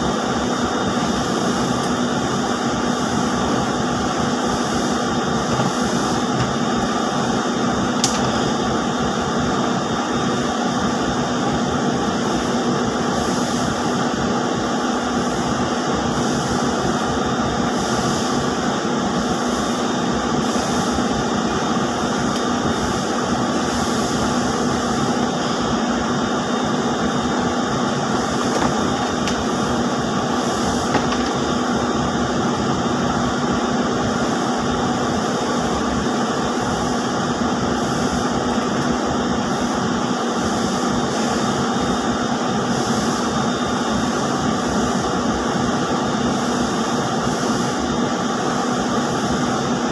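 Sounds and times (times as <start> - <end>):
industrial machinery humming: 0.0 - 49.9.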